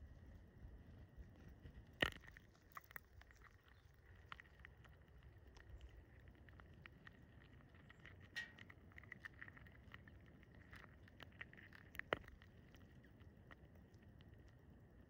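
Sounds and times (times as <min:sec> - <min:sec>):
birds pecking at seed feeder: 0:00.0 - 0:15.0.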